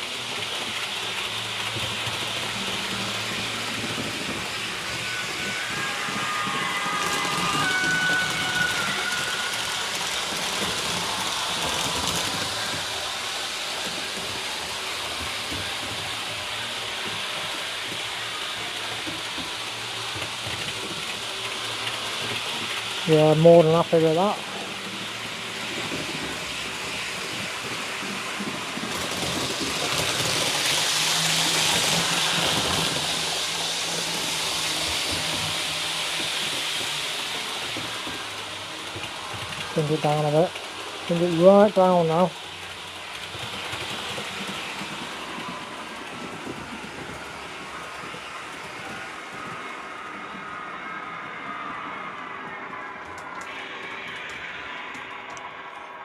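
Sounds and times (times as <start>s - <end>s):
model train running on track: 0.0s - 56.0s
thin motor whine: 0.0s - 56.0s.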